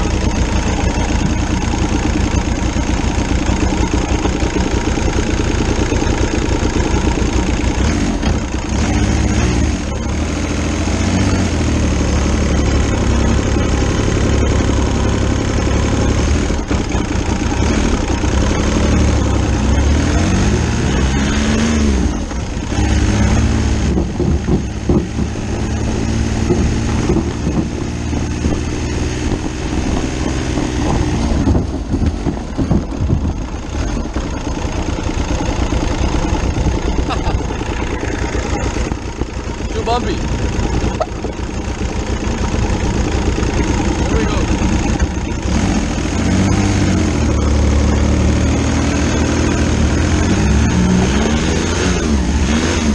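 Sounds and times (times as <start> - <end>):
diesel motorcycle engine revving: 0.0 - 52.9.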